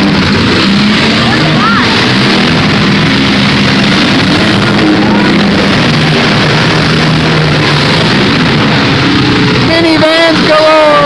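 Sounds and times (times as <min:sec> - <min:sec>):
crowd noise: 0:00.0 - 0:11.0
minivan engines running: 0:00.0 - 0:11.0.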